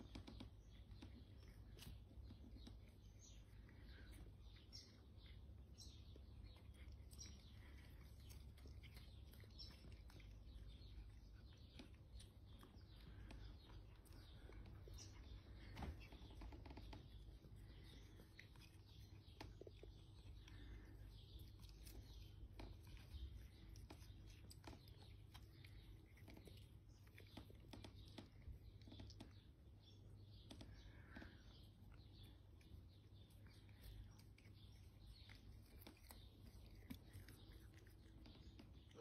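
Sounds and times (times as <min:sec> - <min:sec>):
cats chewing grass: 0:00.0 - 0:39.0.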